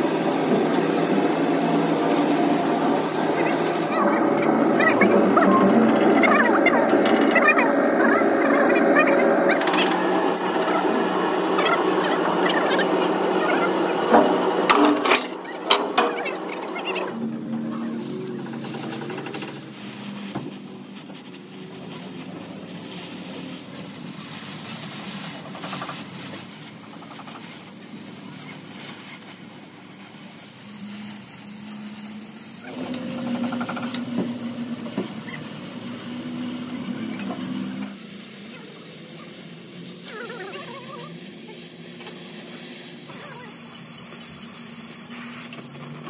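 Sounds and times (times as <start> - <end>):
cutting torch hissing: 0.0 - 46.0.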